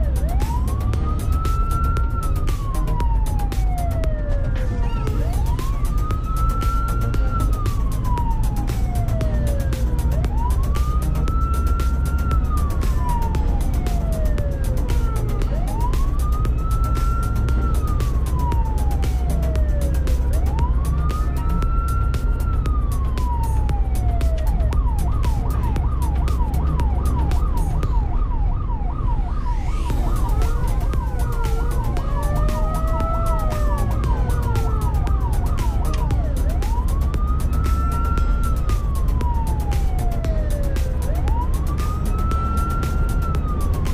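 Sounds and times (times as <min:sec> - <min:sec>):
ambulance siren wailing: 0:00.0 - 0:43.9
engine and road rumble: 0:00.0 - 0:43.9.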